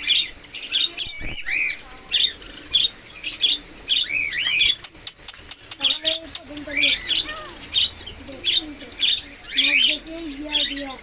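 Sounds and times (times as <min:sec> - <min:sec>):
parakeet screeching: 0:00.0 - 0:04.9, 0:05.8 - 0:11.0.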